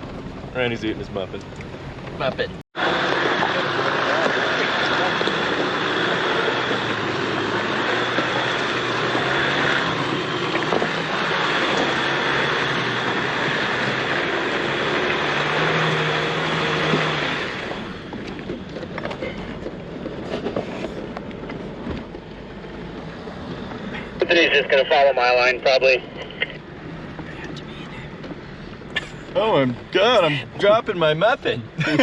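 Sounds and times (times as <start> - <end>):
vehicle road and engine noise: 0.0 - 32.0.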